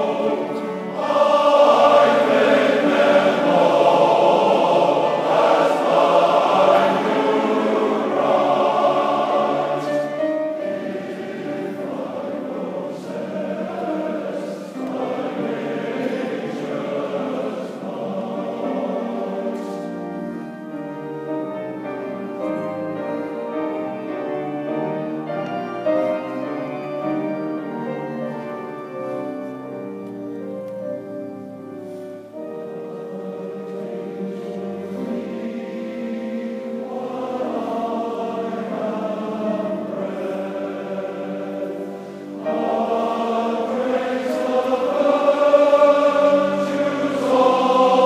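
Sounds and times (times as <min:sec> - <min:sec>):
choirs singing a hymn: 0:00.0 - 0:48.0.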